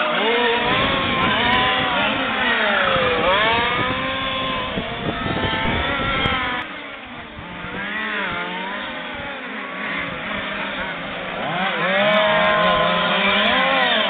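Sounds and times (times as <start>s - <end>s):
small racing engines buzzing: 0.0s - 14.0s.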